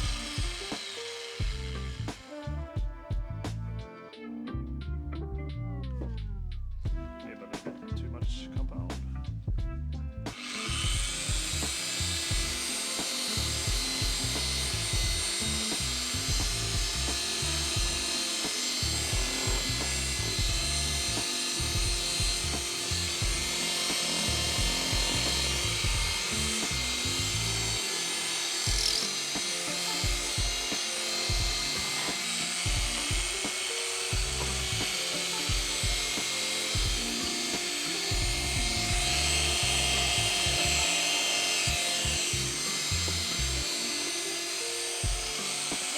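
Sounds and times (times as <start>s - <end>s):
polishing machine whirring: 0.0s - 2.5s, 10.3s - 45.9s.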